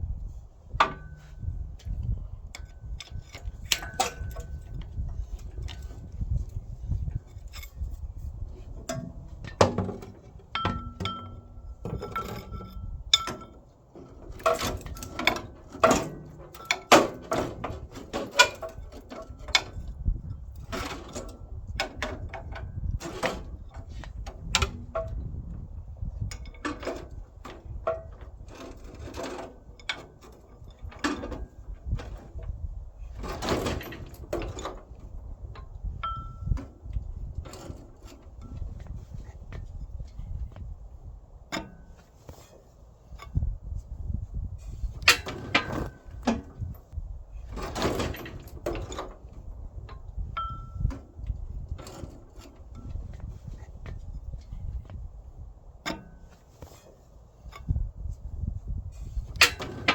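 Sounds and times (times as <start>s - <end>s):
metal tools clanking and rattling: 0.3s - 40.6s, 41.5s - 43.4s, 44.6s - 59.9s.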